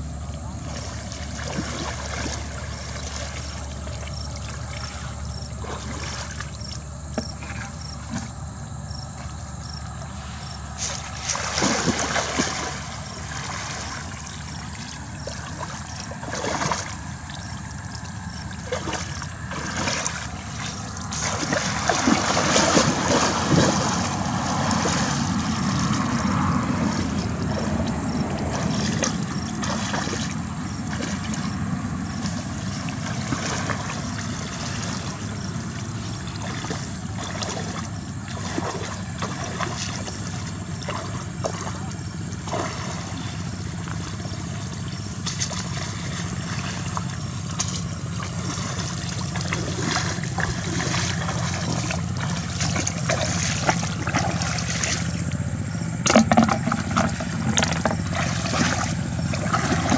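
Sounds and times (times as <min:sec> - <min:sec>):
steady low rumble: 0:00.0 - 0:59.9
water splashing and sloshing: 0:00.0 - 0:59.9.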